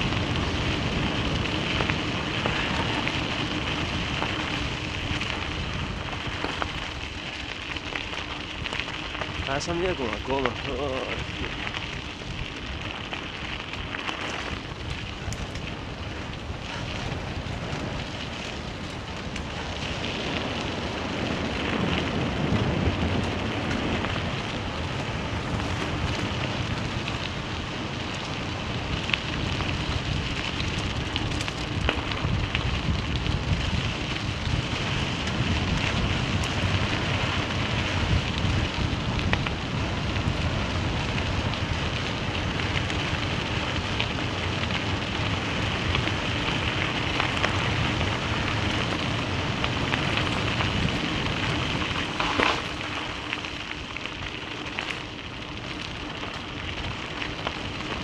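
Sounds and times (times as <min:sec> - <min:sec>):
tyres crunching on gravel: 0:00.0 - 0:58.0.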